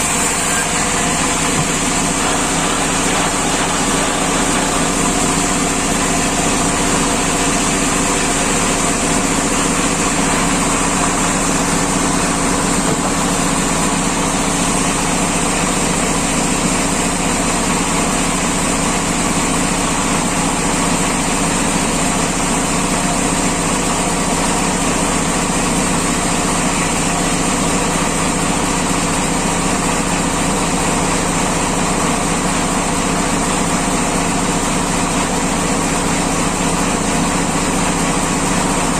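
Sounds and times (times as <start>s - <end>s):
sawmill machinery droning: 0.0s - 38.9s.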